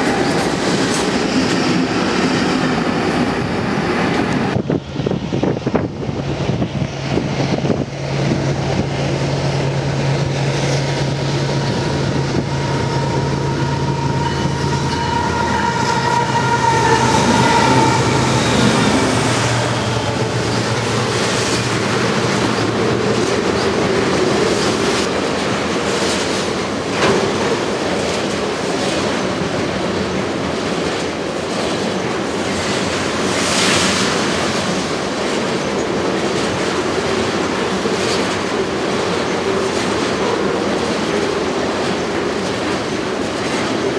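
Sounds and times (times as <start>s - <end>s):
locomotive engine hum: 0.0s - 43.9s
train wheels clacking over rails: 0.0s - 43.9s.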